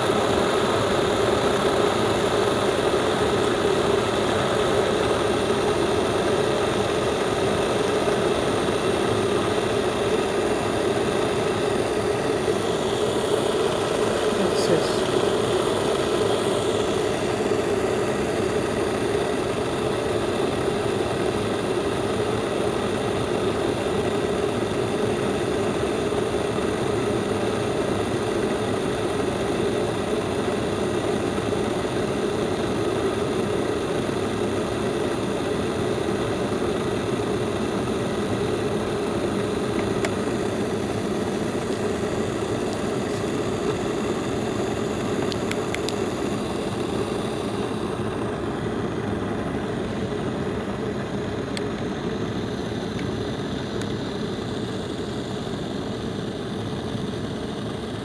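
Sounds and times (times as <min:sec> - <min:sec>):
electric kettle heating water: 0:00.0 - 0:58.0.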